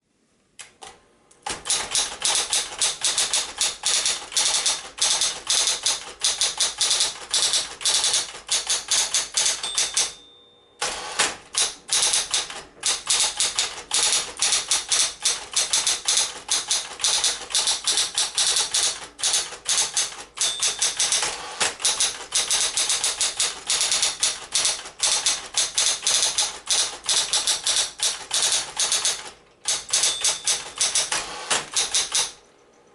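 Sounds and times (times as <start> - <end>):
electric typewriter typing: 0.8 - 10.2, 10.8 - 32.4.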